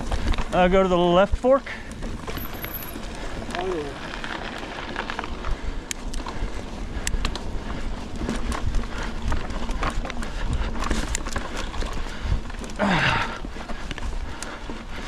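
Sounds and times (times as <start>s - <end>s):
bike clicks and rattles: 0.0s - 1.1s, 1.7s - 15.0s
wind rumbling on microphone: 0.0s - 1.1s, 1.8s - 15.0s
bike tyres rolling on dirt: 0.0s - 15.0s.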